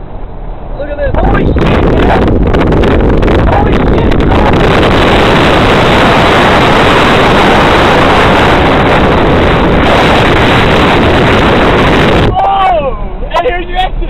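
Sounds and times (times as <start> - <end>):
car engine noise: 0.0 - 14.0
wind buffeting microphone: 1.0 - 12.4.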